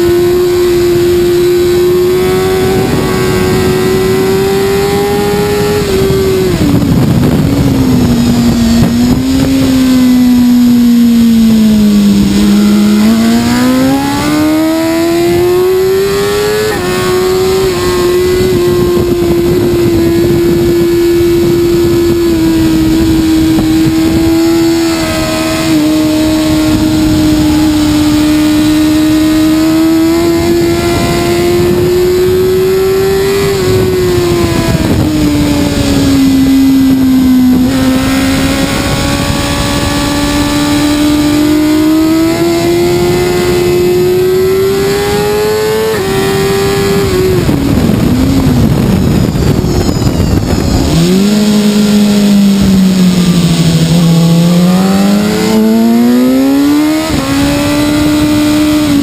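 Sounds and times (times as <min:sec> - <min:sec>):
motorcycle engine revving high: 0:00.0 - 0:59.0
wind rush: 0:00.0 - 0:59.0.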